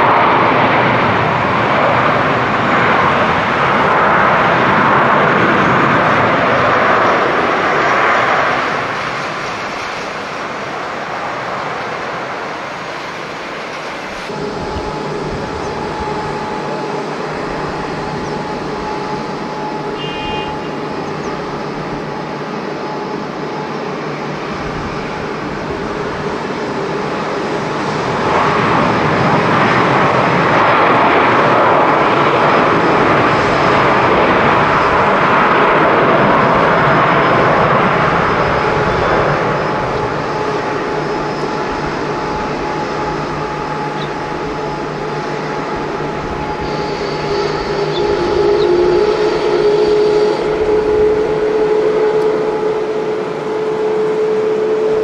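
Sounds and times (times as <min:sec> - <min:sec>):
jet engines landing: 0:00.0 - 0:55.0.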